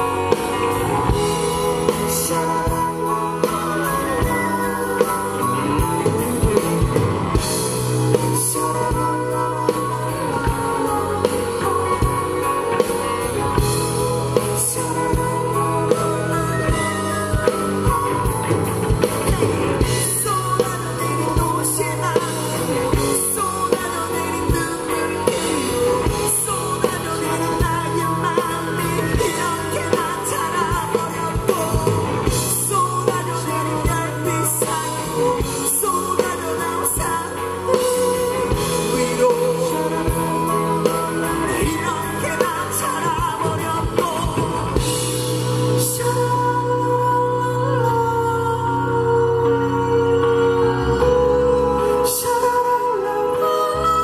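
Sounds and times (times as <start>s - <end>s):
drums: 0.0s - 54.0s
electric bass: 0.0s - 54.0s
electric guitar: 0.0s - 54.0s
man singing: 0.0s - 54.0s.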